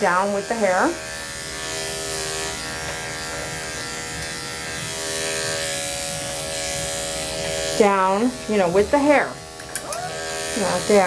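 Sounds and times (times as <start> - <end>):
electric clipper motor hum: 0.0 - 11.0.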